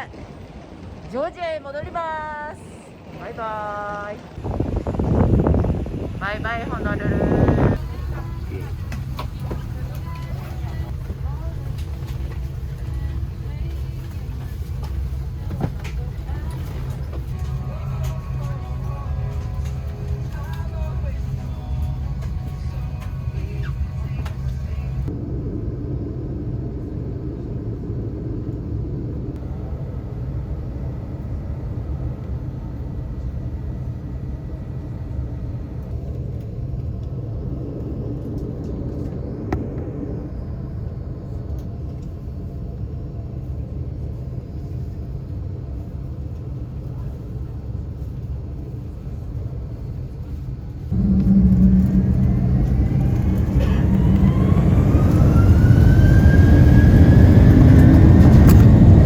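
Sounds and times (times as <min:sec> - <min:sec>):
jet airliner cabin rumble: 0:00.0 - 0:59.0
jet engines spooling up whine: 0:00.0 - 0:59.0.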